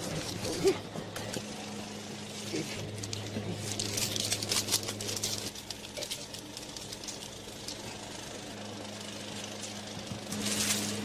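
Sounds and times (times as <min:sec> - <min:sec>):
film projector hum and ticking: 0:00.0 - 0:11.0.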